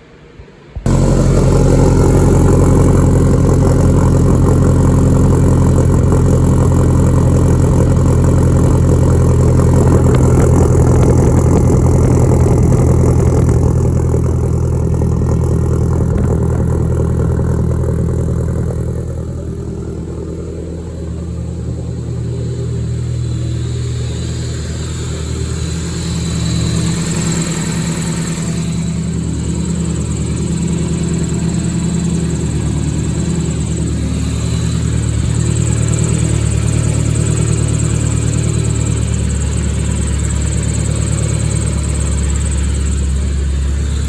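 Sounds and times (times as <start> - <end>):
car engine idling: 0.6 - 44.0.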